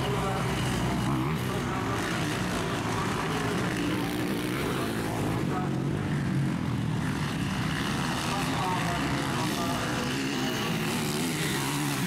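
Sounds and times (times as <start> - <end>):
motocross bike engines droning: 0.0 - 12.0.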